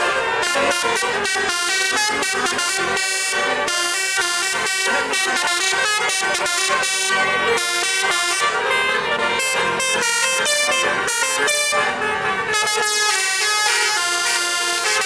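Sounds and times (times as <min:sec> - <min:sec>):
multi-tone air horn tune: 0:00.0 - 0:15.0.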